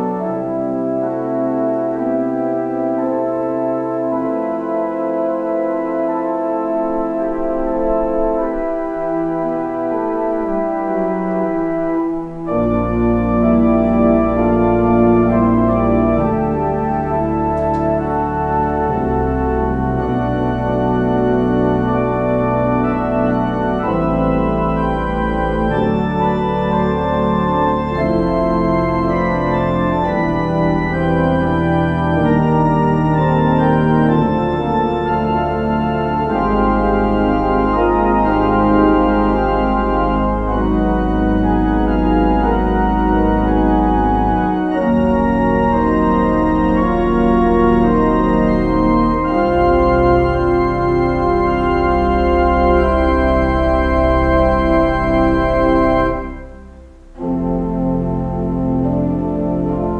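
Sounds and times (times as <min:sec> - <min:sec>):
church organ chords: 0:00.0 - 0:59.9
low pedal bass notes: 0:06.5 - 0:59.9.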